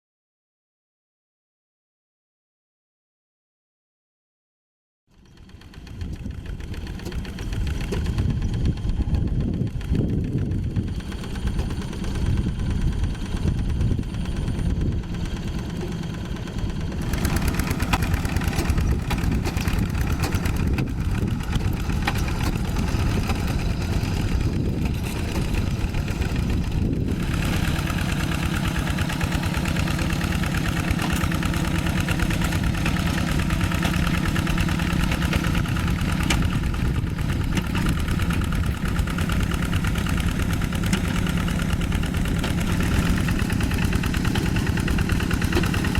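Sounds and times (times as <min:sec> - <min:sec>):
diesel engine running: 0:05.1 - 0:45.9.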